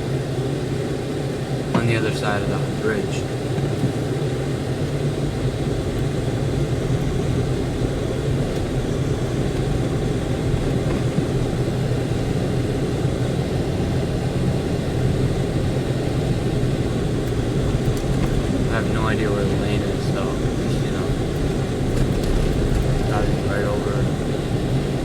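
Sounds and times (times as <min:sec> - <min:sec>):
car driving on snowy road: 0:00.1 - 0:25.0
low hum: 0:00.6 - 0:25.0.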